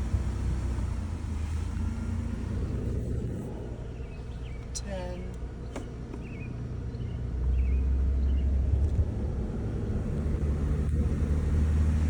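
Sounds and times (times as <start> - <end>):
car driving slowly: 0.0 - 12.0.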